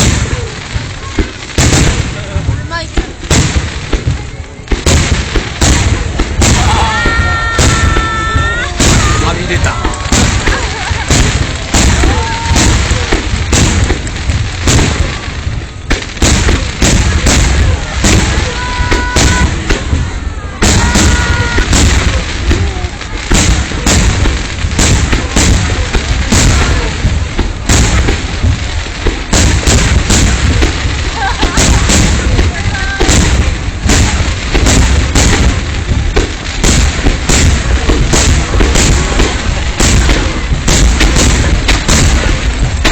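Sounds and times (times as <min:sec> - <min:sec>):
fireworks booms and cracks: 0:00.0 - 0:42.9.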